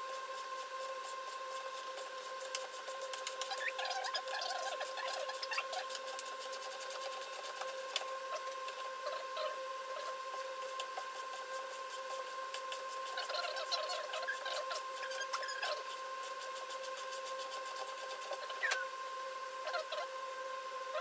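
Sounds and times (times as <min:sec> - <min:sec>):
steady high hum: 0:00.0 - 0:21.0.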